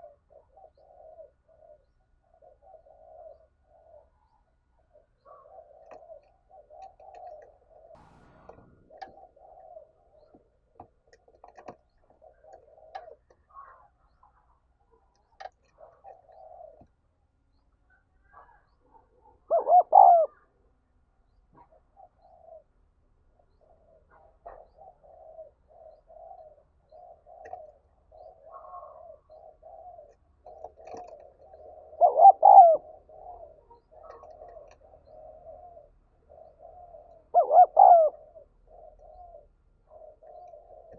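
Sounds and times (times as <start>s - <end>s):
doves cooing: 0.0s - 17.0s, 17.9s - 20.7s, 21.3s - 40.9s.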